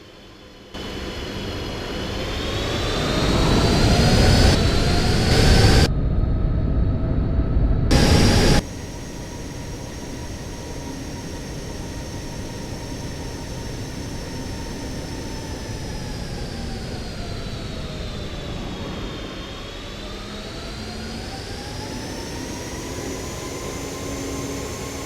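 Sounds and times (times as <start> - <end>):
jet engines whining: 0.3 - 6.9, 7.8 - 25.0.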